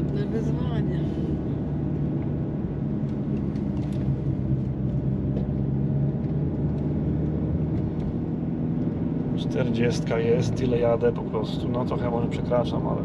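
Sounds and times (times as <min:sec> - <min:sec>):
car engine drone: 0:00.0 - 0:13.0
road rumble: 0:00.0 - 0:13.0.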